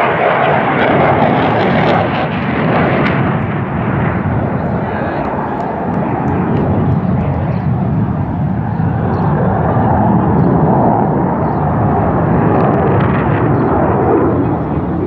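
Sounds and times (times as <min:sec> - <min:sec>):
jet aircraft passing overhead: 0:00.0 - 0:15.0.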